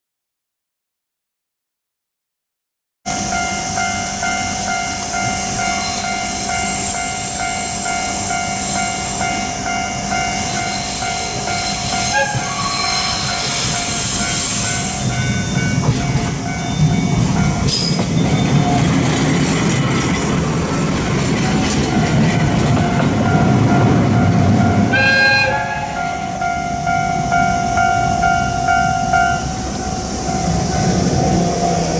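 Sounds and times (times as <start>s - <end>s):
level crossing alarm ringing: 3.1s - 19.2s, 21.4s - 31.0s
diesel locomotive rumble: 3.1s - 31.9s.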